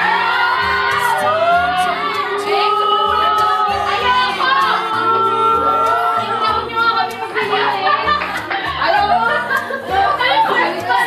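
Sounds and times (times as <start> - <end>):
song with sung vocals: 0.0 - 11.0.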